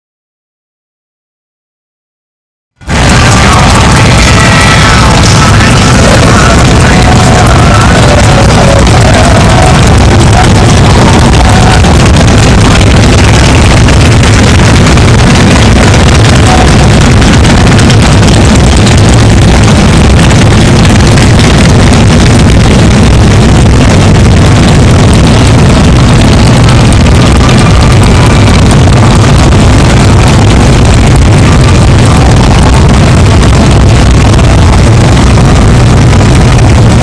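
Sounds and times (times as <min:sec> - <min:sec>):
motorcycle engines rumbling: 0:02.9 - 0:37.0.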